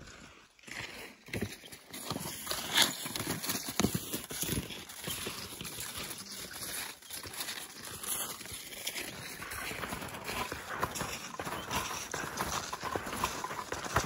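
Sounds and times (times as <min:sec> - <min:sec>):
footsteps crunching in snow: 0:00.7 - 0:14.0.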